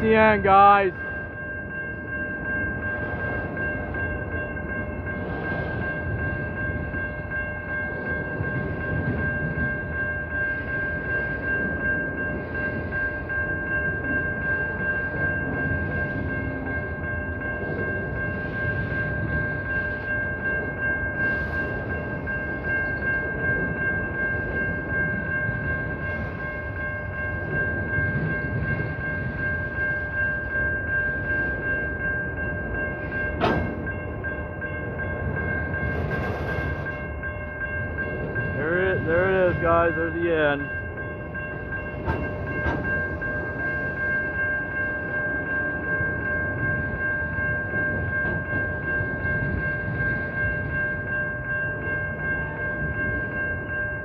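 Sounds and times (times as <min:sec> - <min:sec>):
crossing warning bell ringing: 0:00.0 - 0:54.0
freight train rumbling: 0:00.0 - 0:54.0.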